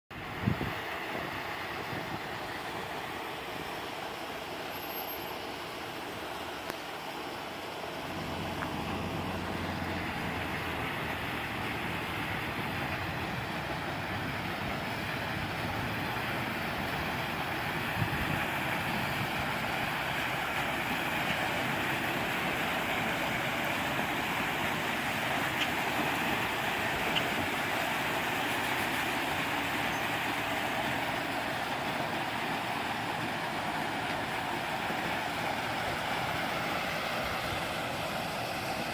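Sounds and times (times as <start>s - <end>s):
waterfall rushing: 0.2s - 38.9s.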